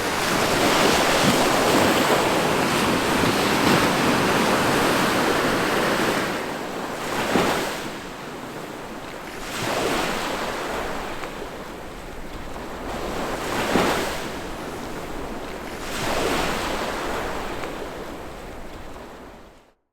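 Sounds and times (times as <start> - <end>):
small waves breaking on beach: 0.0 - 19.5.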